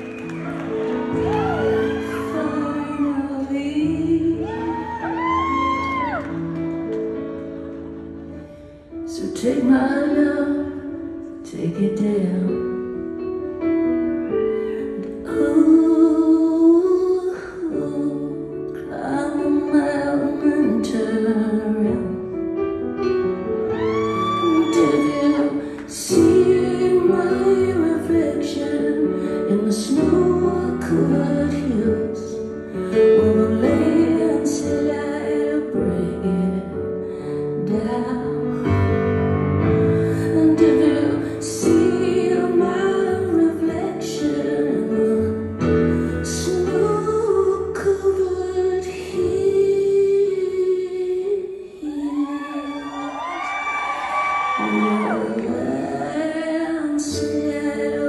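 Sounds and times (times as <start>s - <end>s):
piano chords: 0.0s - 58.0s
woman singing: 1.4s - 6.2s, 9.0s - 13.4s, 14.7s - 39.2s, 39.8s - 58.0s.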